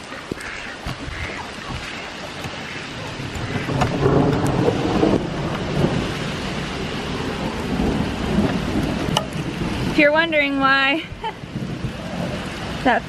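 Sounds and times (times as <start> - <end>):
steady rain falling: 0.0 - 13.0
thunder rumble: 1.1 - 13.0.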